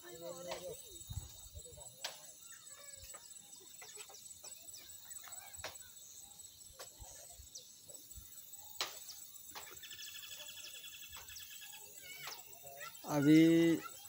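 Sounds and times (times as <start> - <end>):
insect chorus buzzing and chirping: 0.0 - 14.0.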